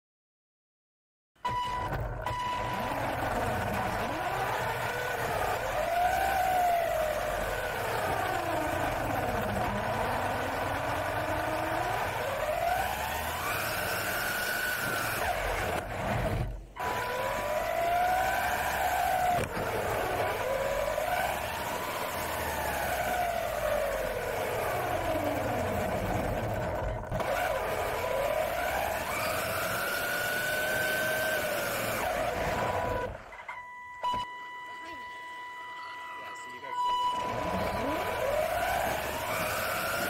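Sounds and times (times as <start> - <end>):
toy car electric motor whining: 2.3 - 33.3, 36.7 - 40.0.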